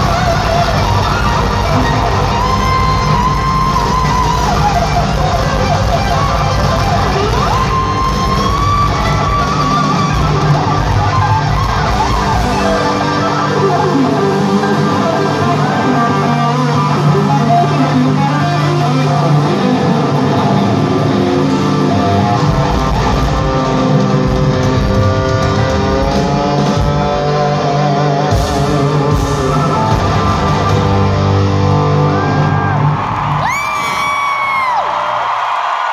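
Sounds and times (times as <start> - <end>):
live rock music with guitar: 0.0 - 35.9.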